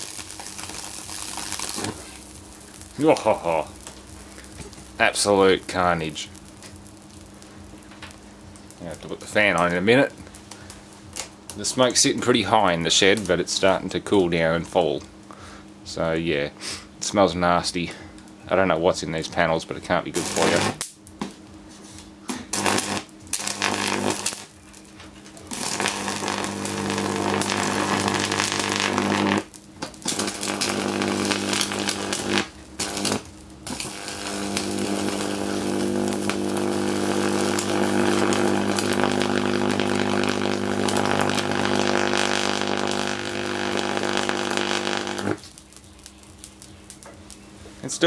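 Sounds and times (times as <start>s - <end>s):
high-voltage arc buzzing: 0.0s - 15.2s, 18.7s - 21.3s, 22.2s - 48.0s.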